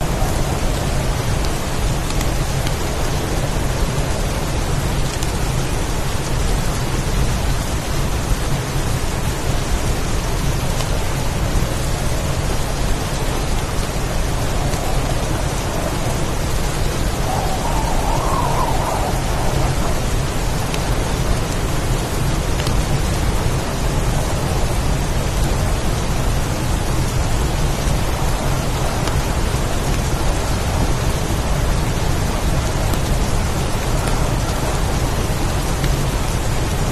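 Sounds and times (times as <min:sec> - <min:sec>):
heavy rain downpour: 0:00.0 - 0:36.9
low storm rumble: 0:00.0 - 0:36.9.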